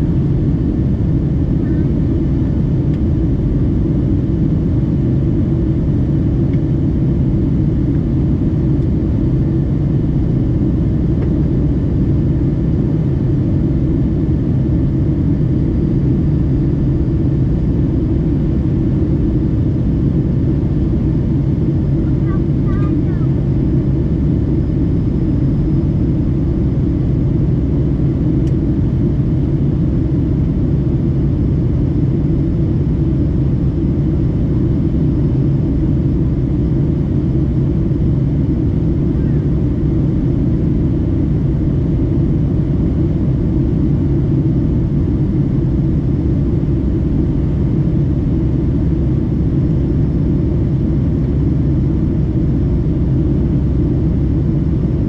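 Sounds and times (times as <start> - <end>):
airliner engine rumble: 0.0 - 55.0.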